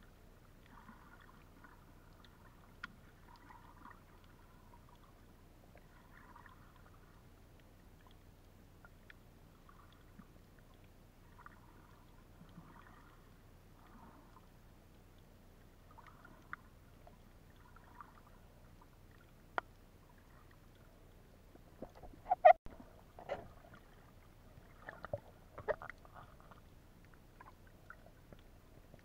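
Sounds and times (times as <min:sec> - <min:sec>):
low underwater hiss: 0:00.0 - 0:29.0
moving water clicks and swishes: 0:00.1 - 0:29.0.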